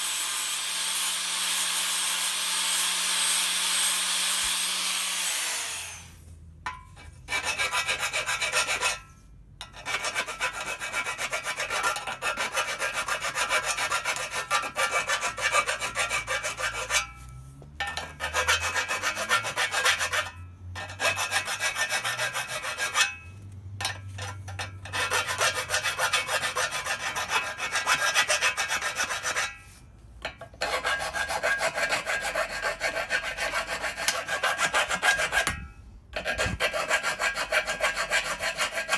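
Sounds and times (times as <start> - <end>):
hand file rasping on steel: 6.7 - 38.9.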